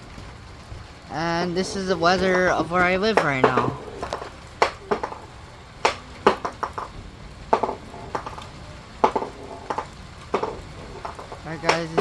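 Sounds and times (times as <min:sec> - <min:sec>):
faint rain hiss: 0:00.0 - 0:12.0
raindrops tapping hard surface: 0:00.0 - 0:12.0.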